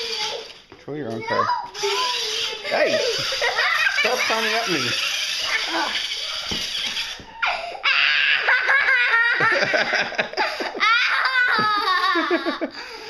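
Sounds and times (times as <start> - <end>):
child laughing: 1.8 - 13.0.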